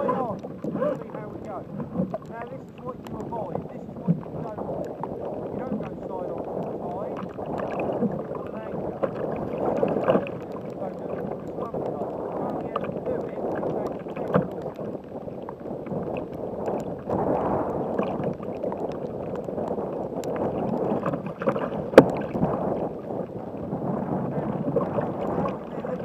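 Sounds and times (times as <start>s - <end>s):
waves slapping against kayak hull: 0.0s - 26.0s.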